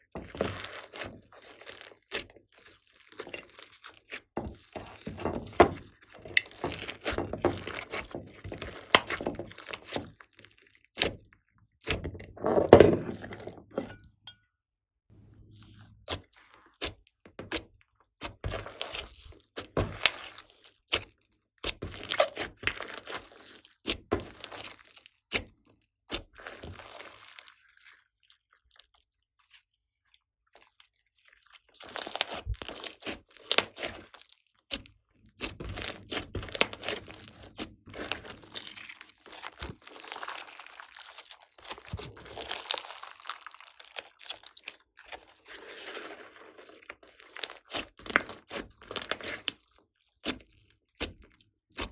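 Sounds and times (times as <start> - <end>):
slime crunching and popping: 0.3 - 11.2, 15.6 - 25.5, 30.6 - 51.9.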